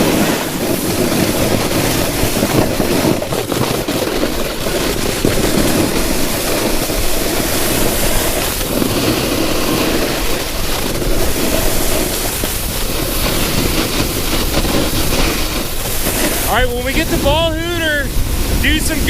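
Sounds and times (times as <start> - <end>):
snowboard scraping on icy snow: 0.0 - 19.0.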